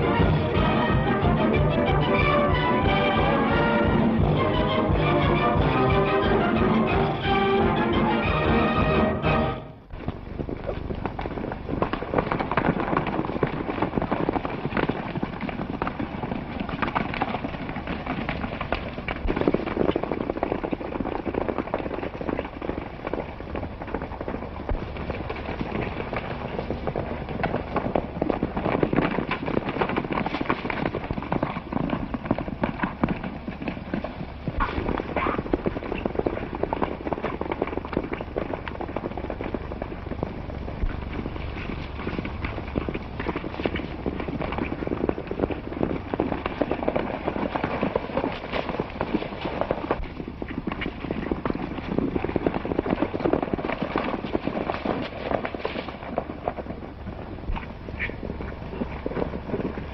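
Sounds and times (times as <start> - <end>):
horses galloping hoofbeats: 0.0 - 59.9.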